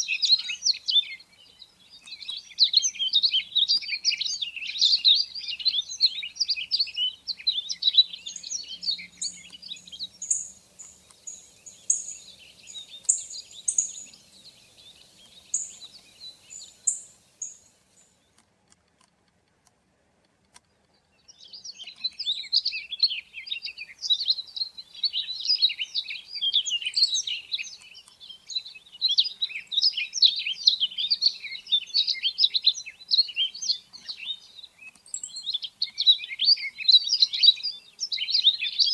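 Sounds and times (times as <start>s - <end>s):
songbirds twittering and chirping: 0.0s - 18.6s, 20.0s - 38.9s.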